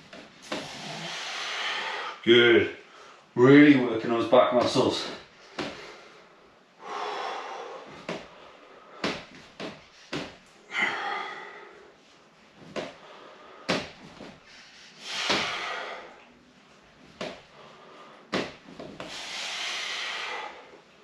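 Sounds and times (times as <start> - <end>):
forceful exhaled breaths: 0.4 - 2.2, 5.0 - 12.1, 12.7 - 21.0.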